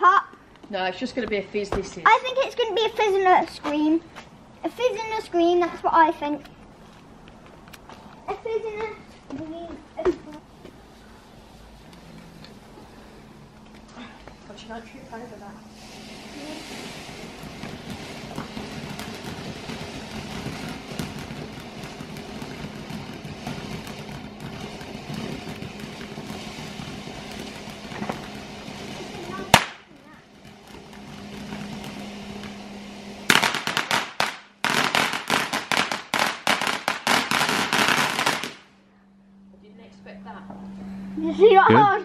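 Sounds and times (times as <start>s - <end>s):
firework crackles: 0.7s - 13.8s, 14.4s - 38.7s
firework fountain hissing: 0.8s - 6.2s, 10.0s - 38.7s.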